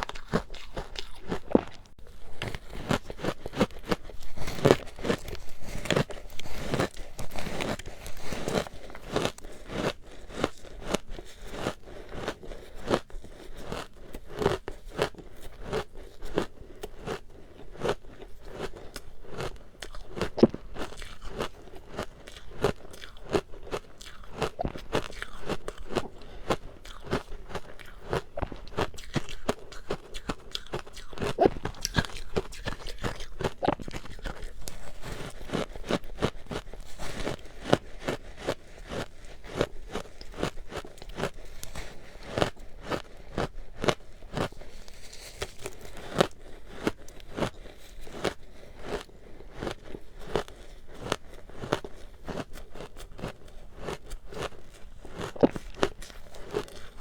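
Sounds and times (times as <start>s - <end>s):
chewing crunchy ice: 0.0s - 57.0s.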